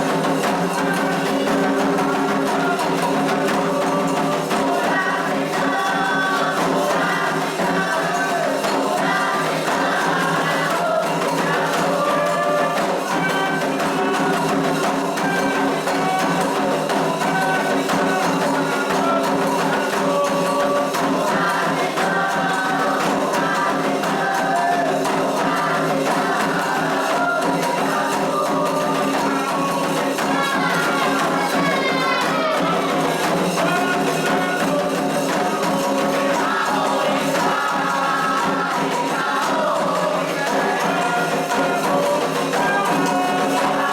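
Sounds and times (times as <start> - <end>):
ceremonial percussion: 0.0 - 43.9
group singing: 0.0 - 43.9
jingling rattling beat: 0.0 - 43.9.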